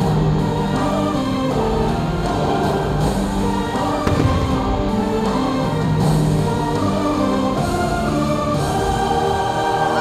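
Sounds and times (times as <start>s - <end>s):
choir singing held notes: 0.0s - 10.0s
soundtrack music: 0.0s - 10.0s.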